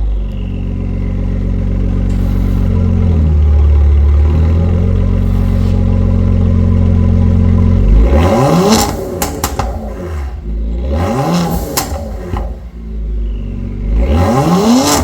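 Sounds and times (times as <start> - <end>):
exhaust pops and crackles: 0.0 - 13.7, 14.7 - 15.0
car exhaust revving: 0.0 - 15.0.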